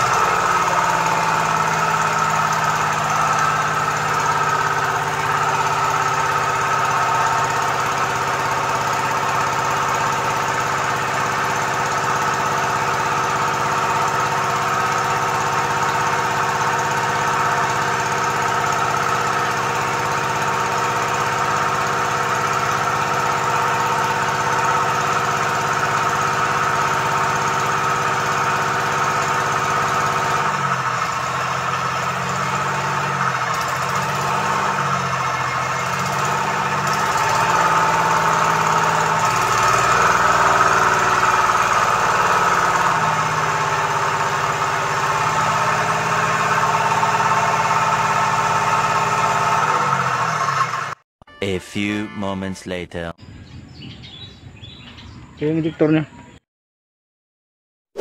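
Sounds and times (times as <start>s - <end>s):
diesel engine running: 0.0s - 56.4s.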